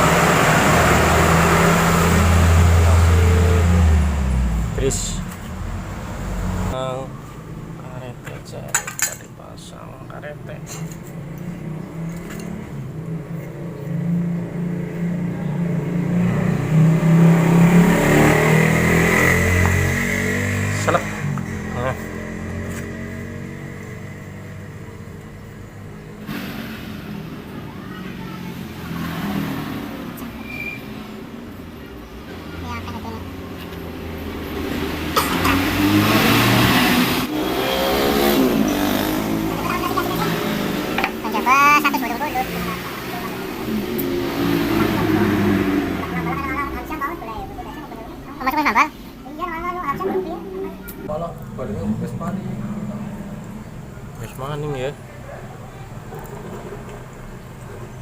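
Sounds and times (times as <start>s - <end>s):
engine revving: 0.0s - 7.6s, 11.0s - 47.8s, 49.7s - 58.0s.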